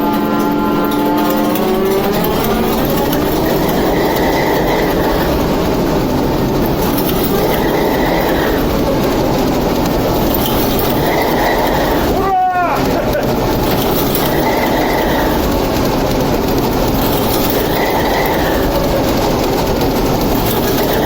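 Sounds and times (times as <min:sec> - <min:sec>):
locomotive diesel engine running: 0:00.0 - 0:21.0.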